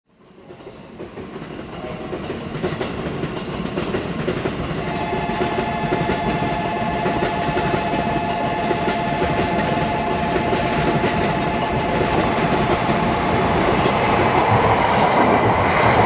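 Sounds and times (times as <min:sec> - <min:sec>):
train rumble: 0:00.2 - 0:16.0.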